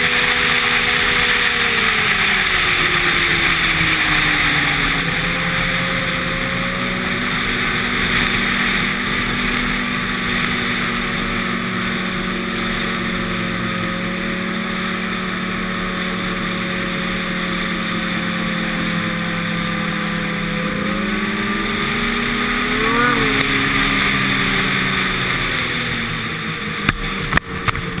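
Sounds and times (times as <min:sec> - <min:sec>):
snowmobile engine running: 0:00.0 - 0:28.0.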